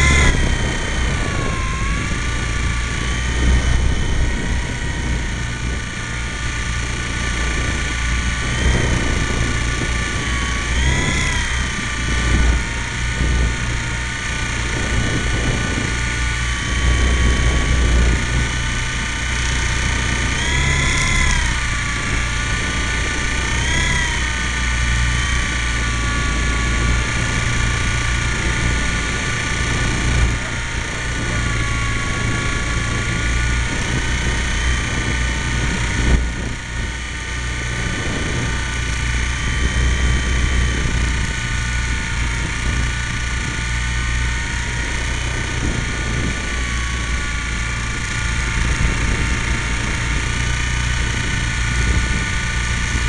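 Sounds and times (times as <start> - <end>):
model helicopter motor whine: 0.0 - 53.0
rotor wash rumble: 0.0 - 53.0.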